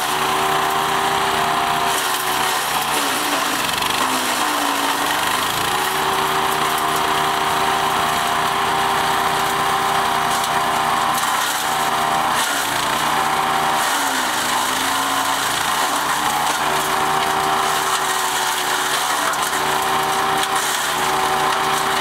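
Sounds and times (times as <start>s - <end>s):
wood chipper shredding branches: 0.0s - 22.0s.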